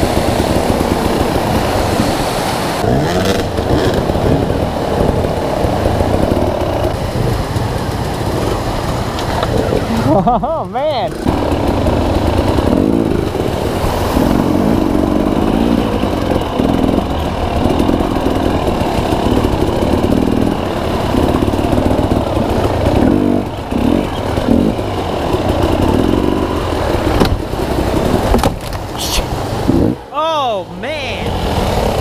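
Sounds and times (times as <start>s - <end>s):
dirt bike engine revving: 0.0s - 28.4s.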